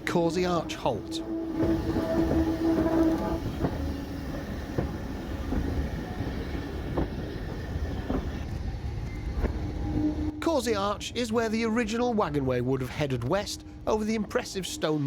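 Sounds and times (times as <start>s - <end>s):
low rumble of train: 0.0s - 15.0s.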